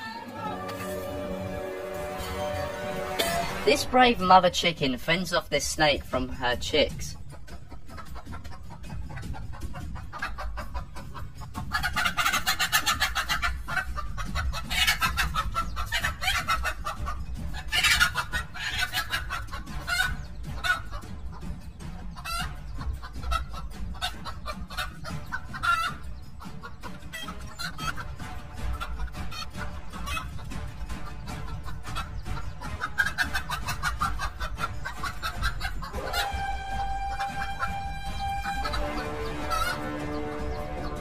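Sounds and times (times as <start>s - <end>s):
hen squawking and clucking: 7.1s - 41.0s.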